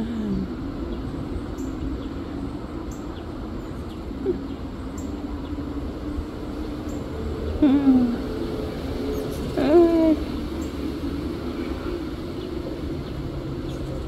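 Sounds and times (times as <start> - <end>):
faint wavering low hum: 0.0 - 14.0
wind rumbling on microphone: 0.0 - 14.0.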